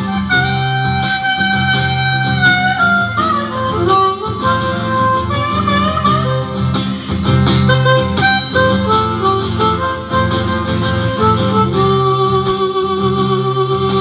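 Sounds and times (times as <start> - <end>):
acoustic guitar strumming: 0.0 - 14.0
harmonica with bending notes: 0.0 - 14.0.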